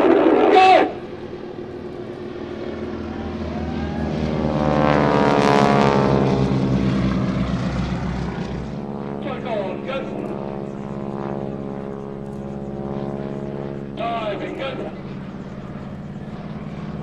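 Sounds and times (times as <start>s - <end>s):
biplane engines passing: 0.0s - 17.0s.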